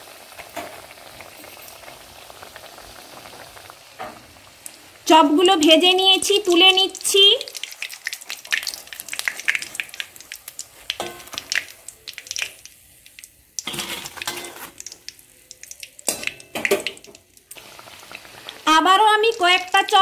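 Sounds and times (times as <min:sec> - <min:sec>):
hot oil sizzling and crackling: 0:00.0 - 0:20.0.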